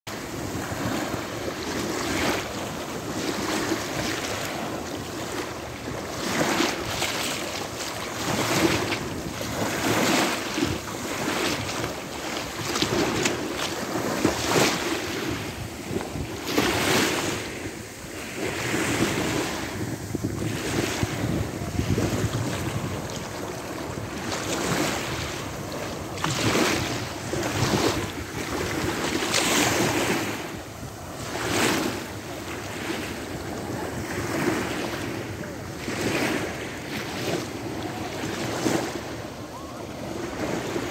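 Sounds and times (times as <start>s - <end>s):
small waves washing onto beach: 0.1s - 40.9s
wind buffeting microphone: 0.1s - 40.9s.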